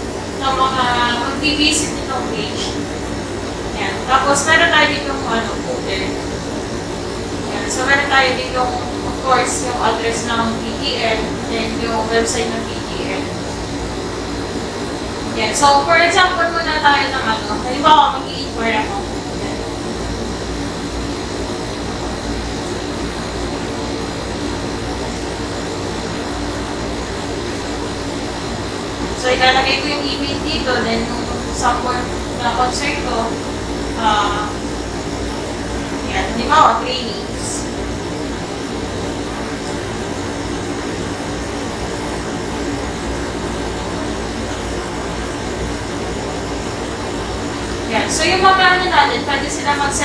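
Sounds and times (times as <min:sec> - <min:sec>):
machine drone with hum and hiss: 0:00.0 - 0:50.0.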